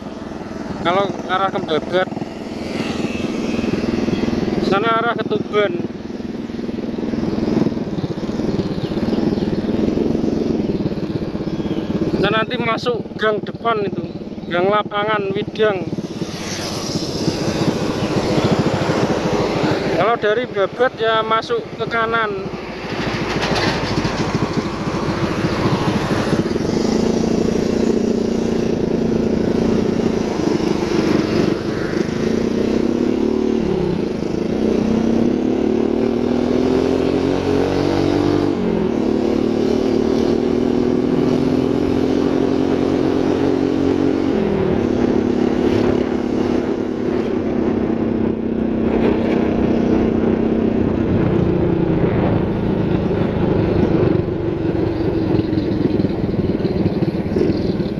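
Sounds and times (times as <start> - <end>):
motorcycle engine accelerating: 0.0 - 57.9
road noise: 0.0 - 57.9.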